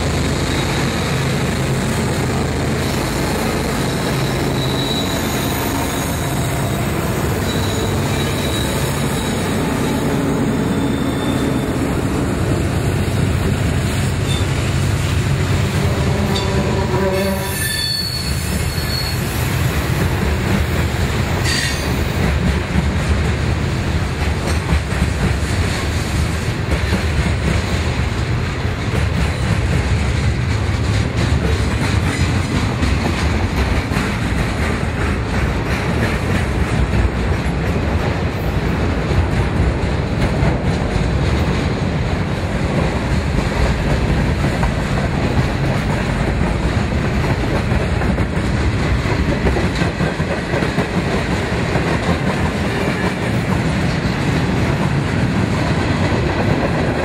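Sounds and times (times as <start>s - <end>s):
diesel locomotive engine drone: 0.0s - 57.0s
steel wheels rumbling on rails: 0.0s - 57.0s.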